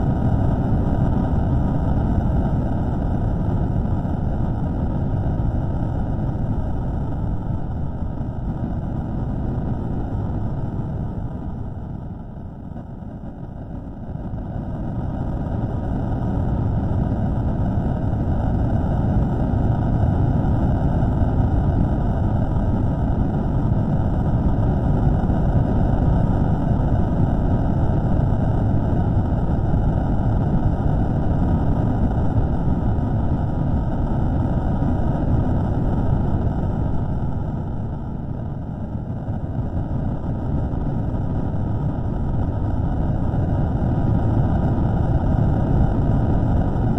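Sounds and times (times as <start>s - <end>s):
low rumbling drone: 0.0s - 46.9s.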